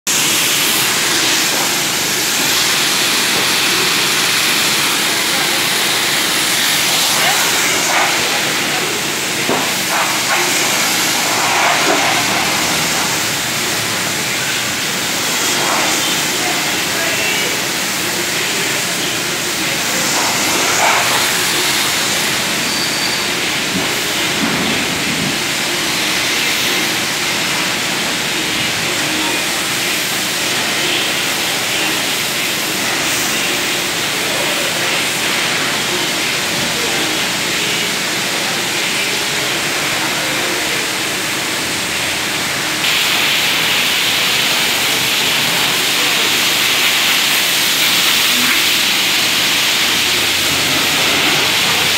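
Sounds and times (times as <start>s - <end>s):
pressure washer spraying water: 0.1s - 51.9s.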